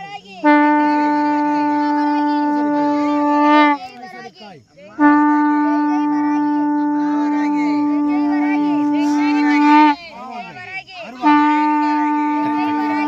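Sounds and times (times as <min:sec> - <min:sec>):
conch shell blasts: 0:00.4 - 0:04.0, 0:04.9 - 0:10.1, 0:11.1 - 0:13.0.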